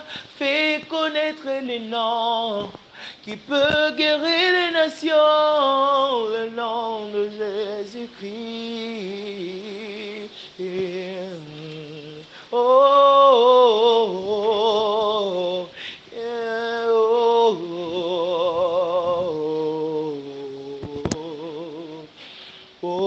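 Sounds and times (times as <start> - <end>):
man singing with vibrato: 0.0 - 23.0.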